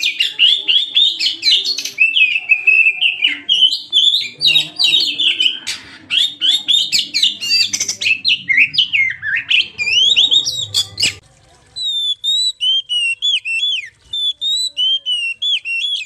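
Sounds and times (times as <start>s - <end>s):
bird singing whistled notes: 0.0s - 11.2s, 11.8s - 16.0s.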